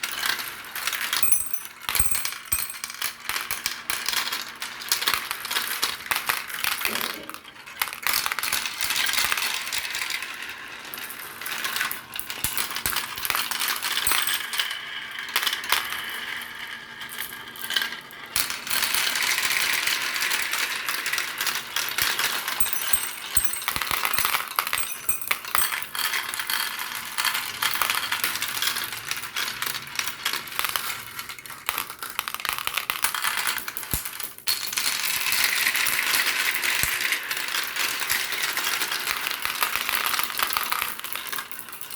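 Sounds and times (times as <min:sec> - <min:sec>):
marbles rolling and clattering: 0:00.0 - 0:16.4, 0:17.0 - 0:41.9.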